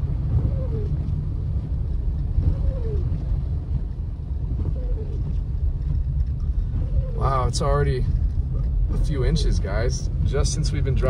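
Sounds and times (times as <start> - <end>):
vehicle rumbling on snowy road: 0.0 - 11.0.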